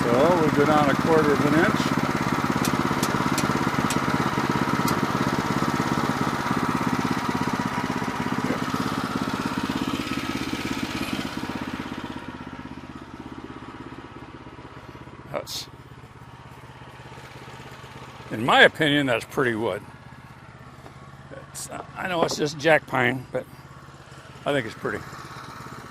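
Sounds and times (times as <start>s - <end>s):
gas engine idling: 0.0s - 25.9s.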